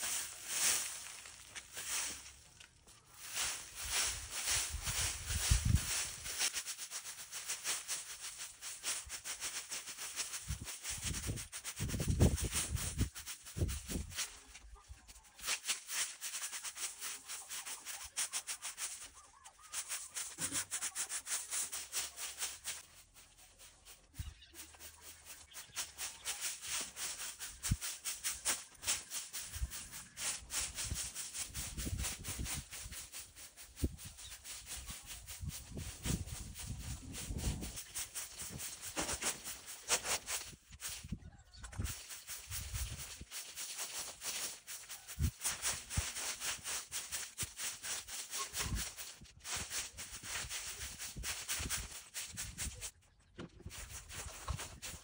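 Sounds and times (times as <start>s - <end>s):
twig broom sweeping dirt and leaves: 0.0s - 53.0s, 53.6s - 55.0s.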